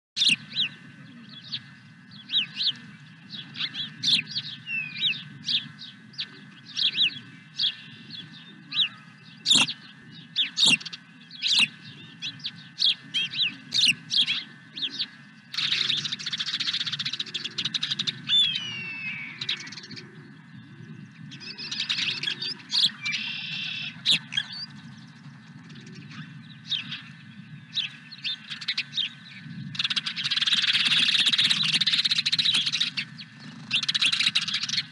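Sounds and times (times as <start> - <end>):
birds chirping: 0.2 - 34.9
steady low hum: 0.2 - 34.9.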